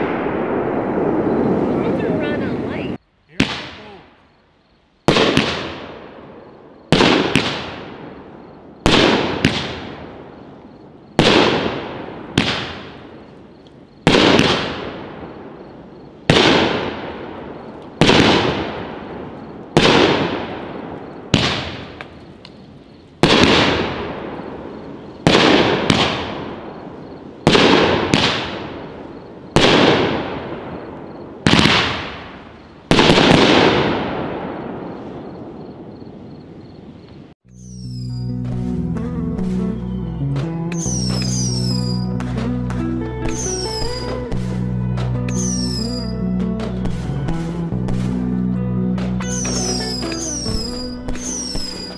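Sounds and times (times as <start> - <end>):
fireworks bangs: 0.0 - 4.4, 5.0 - 38.8, 39.4 - 48.3, 49.0 - 51.9.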